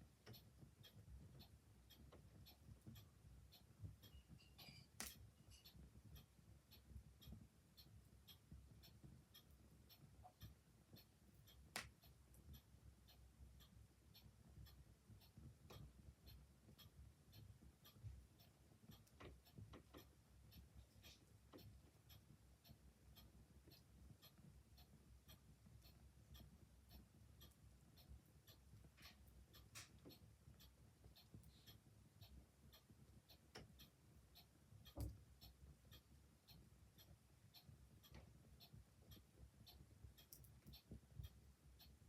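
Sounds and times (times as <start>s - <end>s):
clock ticking: 0.0s - 42.0s.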